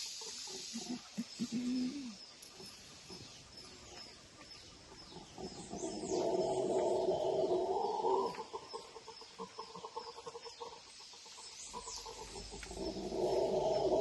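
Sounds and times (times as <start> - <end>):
chickens clucking: 0.0 - 14.0
small birds chirping: 0.0 - 14.0.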